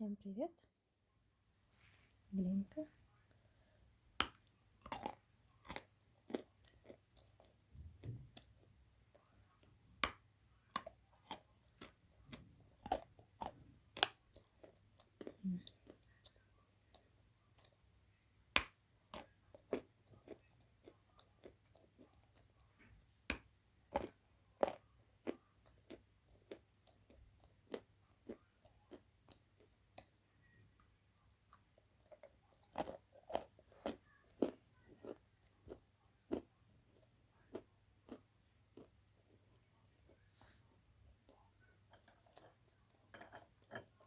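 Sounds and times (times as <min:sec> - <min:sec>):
clay crunching when chewed: 0:04.1 - 0:40.3, 0:41.1 - 0:44.0.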